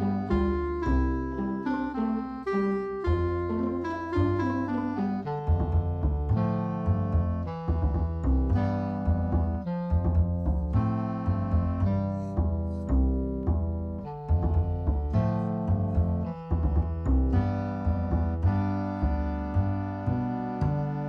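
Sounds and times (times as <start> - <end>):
piano music with deep bass: 0.0 - 21.0.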